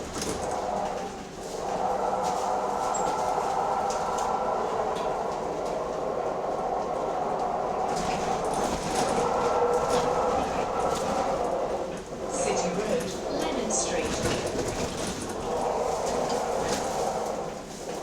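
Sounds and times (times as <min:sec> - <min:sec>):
bus whining drone: 0:00.0 - 0:18.0.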